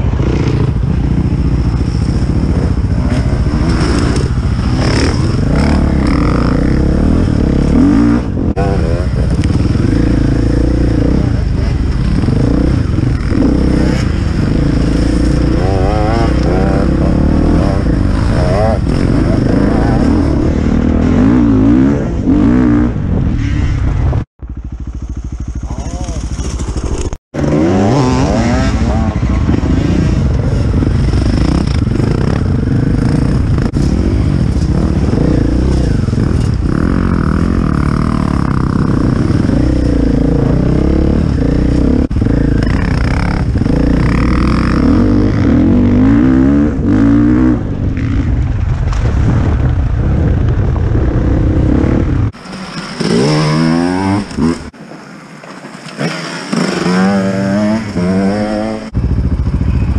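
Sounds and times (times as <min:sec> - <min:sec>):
dirt bike engine revving: 0:00.0 - 0:48.6, 0:50.0 - 0:54.8, 0:56.0 - 0:59.9.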